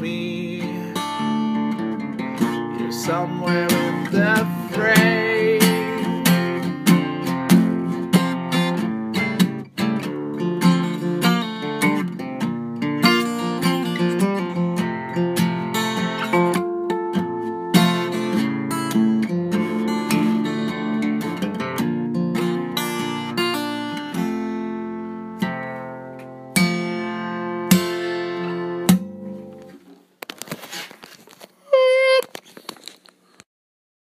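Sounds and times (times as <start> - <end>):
acoustic guitar strumming: 0.0 - 29.9.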